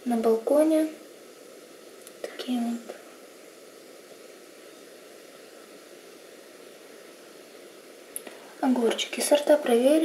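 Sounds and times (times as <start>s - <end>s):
faint recording hiss: 0.0s - 10.0s.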